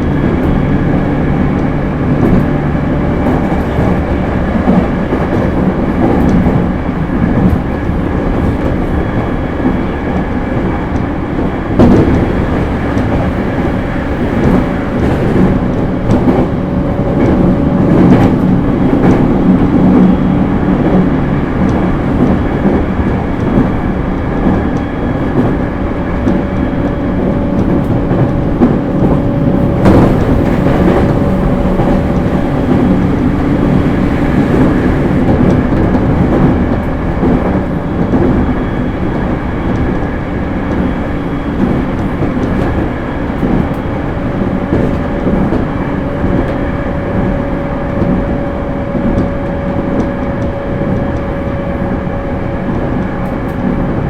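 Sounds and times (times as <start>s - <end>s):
clacks over rail joints: 0.0s - 54.0s
faint train whine: 0.0s - 54.0s
train wheels rumbling on rails: 0.0s - 54.0s.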